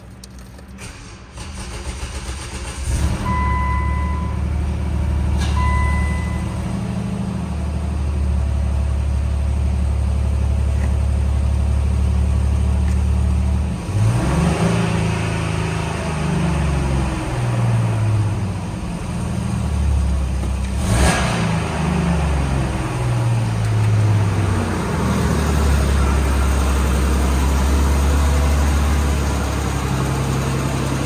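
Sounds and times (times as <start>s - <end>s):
car engine starting and idling: 0.0s - 31.0s.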